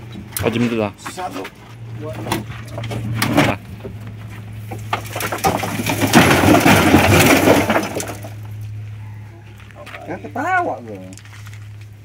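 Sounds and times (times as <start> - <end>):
metal scraping and crunching: 0.0 - 10.1, 11.0 - 12.0
steady engine hum: 0.0 - 12.0.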